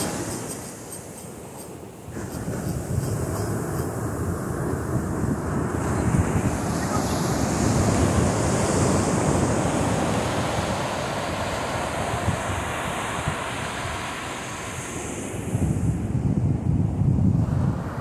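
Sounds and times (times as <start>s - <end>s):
ocean surf breaking: 0.0s - 15.9s
wind buffeting microphone: 1.8s - 18.0s.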